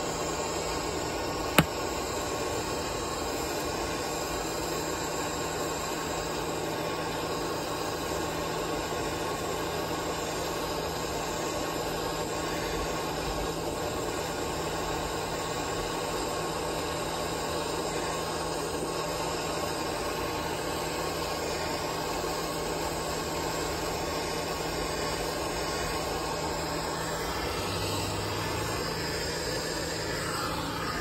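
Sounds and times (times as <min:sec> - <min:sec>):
propane torch hissing: 0:00.0 - 0:31.0.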